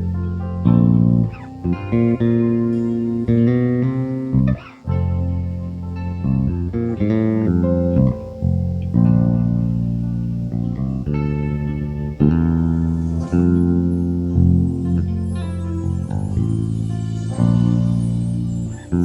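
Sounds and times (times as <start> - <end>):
electric bass guitar low notes: 0.0 - 19.0.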